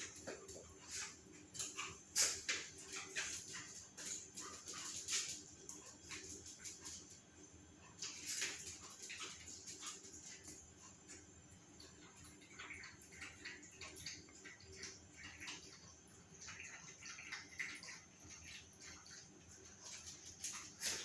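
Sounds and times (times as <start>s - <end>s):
animals scuffling: 0.0s - 21.0s.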